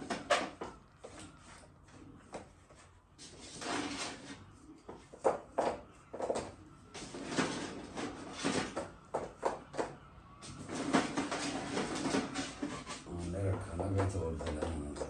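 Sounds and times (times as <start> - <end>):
scraping and knocking: 0.0 - 15.0.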